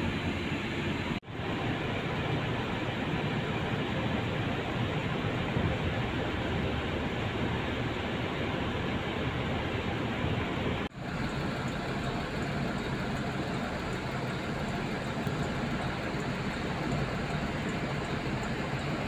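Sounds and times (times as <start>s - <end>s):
bus engine rumble and hiss: 0.0s - 19.0s.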